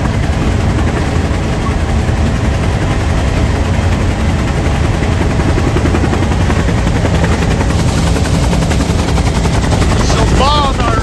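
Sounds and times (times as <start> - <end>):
helicopter engine rumble: 0.0 - 11.0
rotor blades thumping: 0.0 - 11.0.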